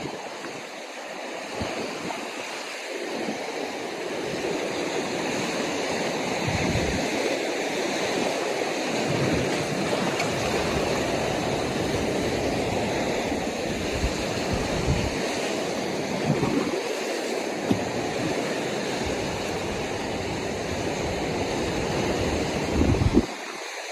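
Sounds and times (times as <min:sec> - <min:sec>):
ocean surf washing ashore: 0:00.0 - 0:23.9
wind buffeting microphone: 0:03.0 - 0:23.6.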